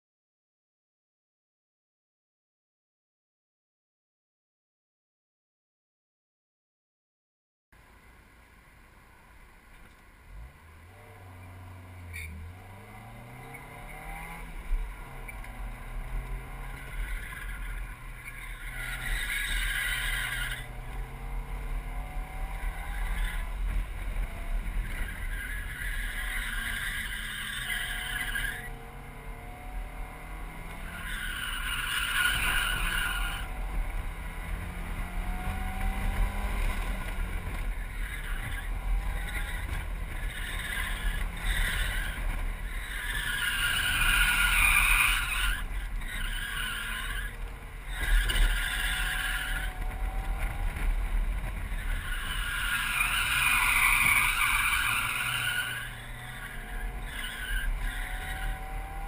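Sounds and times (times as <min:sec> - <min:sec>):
car engine accelerating: 0:09.8 - 0:59.0.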